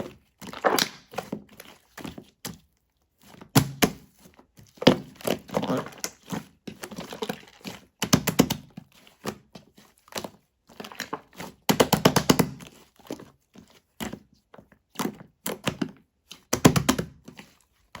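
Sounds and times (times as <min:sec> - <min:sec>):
slime crackling and squelching: 0:00.0 - 0:16.6.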